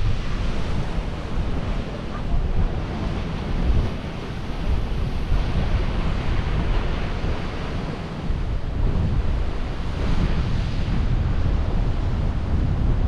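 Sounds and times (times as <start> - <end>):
ocean surf breaking on rocks: 0.0 - 13.0
wind buffeting microphone: 0.0 - 13.0.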